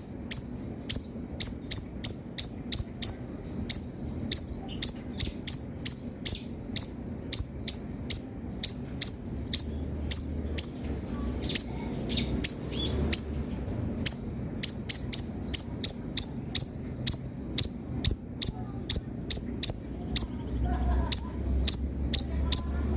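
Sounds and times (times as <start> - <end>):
sunbird high chirps: 0.0 - 22.9.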